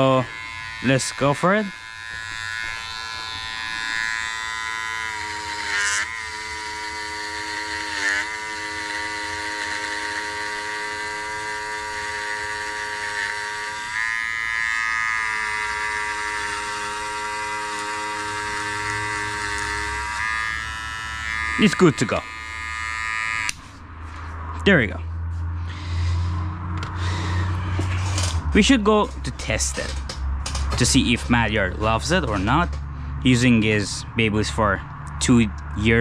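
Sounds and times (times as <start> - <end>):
hair clipper humming: 0.0 - 23.8, 26.7 - 32.9.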